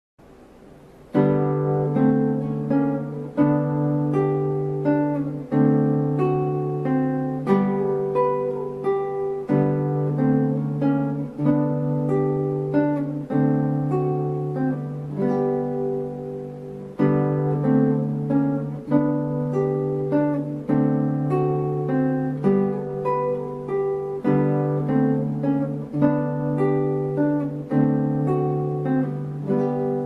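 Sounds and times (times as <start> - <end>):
acoustic guitar picking: 0.3 - 30.0.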